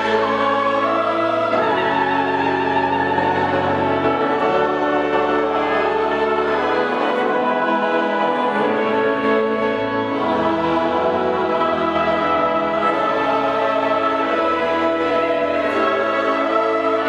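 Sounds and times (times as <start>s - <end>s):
choir singing held chords: 0.0s - 17.0s
orchestral accompaniment: 0.0s - 17.0s.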